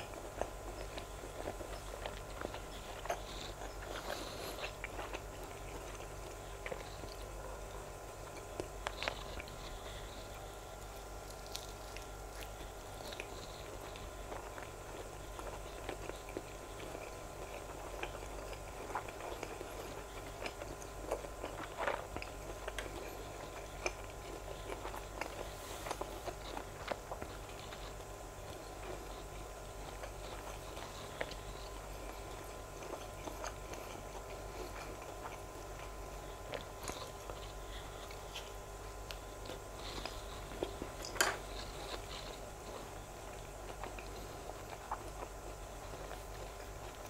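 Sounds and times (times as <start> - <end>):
faint steady hum: 0.0 - 47.0
mouth chewing with wet smacks: 0.0 - 47.0.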